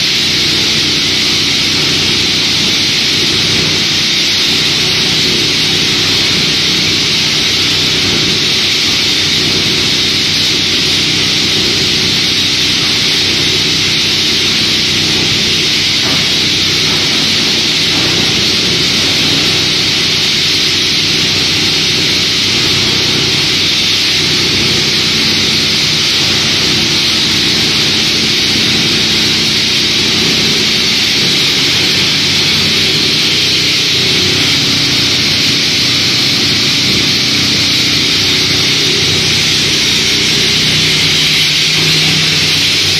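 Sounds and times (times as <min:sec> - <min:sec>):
plastic shredder running: 0:00.0 - 0:42.9.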